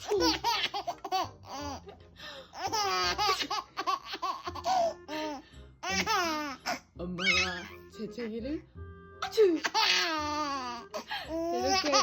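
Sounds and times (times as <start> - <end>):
baby laughing: 0.0 - 7.8, 9.2 - 12.0.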